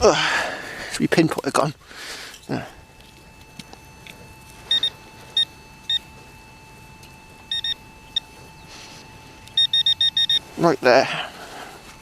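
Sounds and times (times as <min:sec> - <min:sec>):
metal detector high beeps: 0:02.1 - 0:12.0.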